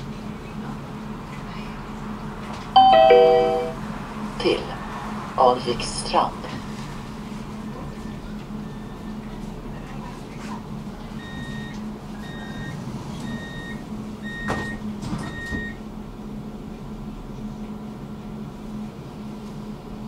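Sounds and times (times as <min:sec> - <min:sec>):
tram low hum: 0:00.0 - 0:15.1, 0:15.7 - 0:20.0.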